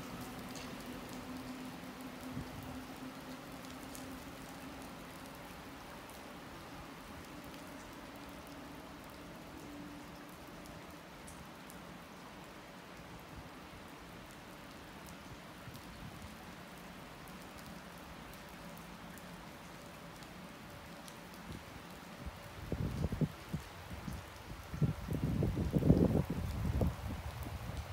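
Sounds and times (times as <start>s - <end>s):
raindrops ticking: 0.0s - 27.9s
steady rain falling: 0.0s - 27.9s.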